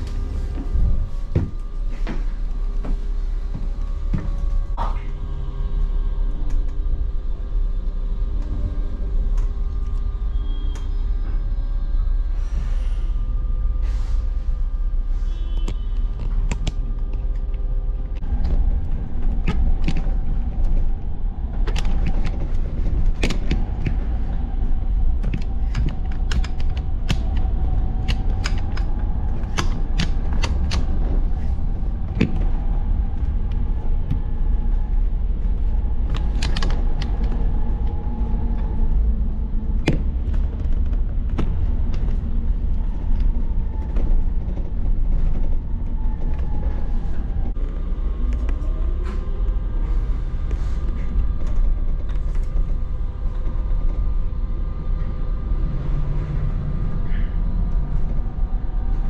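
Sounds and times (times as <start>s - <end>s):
body rattles and creaks: 0.0s - 5.2s, 15.6s - 47.9s, 48.5s - 59.0s
bus rumble and whine: 0.0s - 59.0s.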